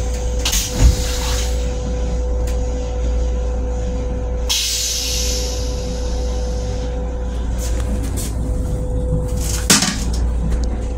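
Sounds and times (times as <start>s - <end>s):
railcar hum and rumble: 0.0s - 10.9s.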